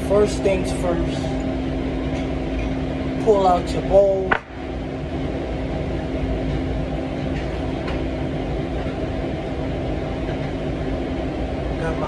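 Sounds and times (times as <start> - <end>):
kitchen equipment hum: 0.0 - 12.0.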